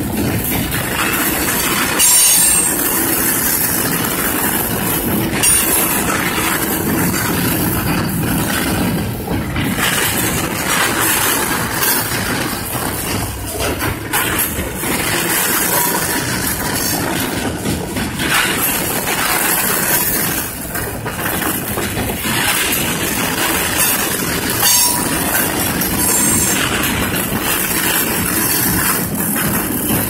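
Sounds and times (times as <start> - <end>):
train wheels rolling on rail: 0.0 - 30.0.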